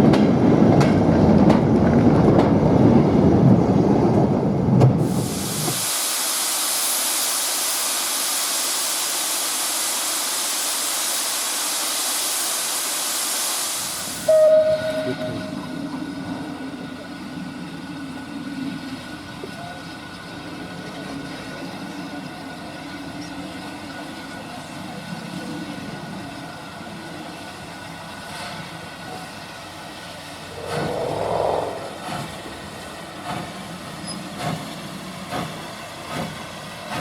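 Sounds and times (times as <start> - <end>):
steam locomotive hissing steam: 5.0 - 37.0.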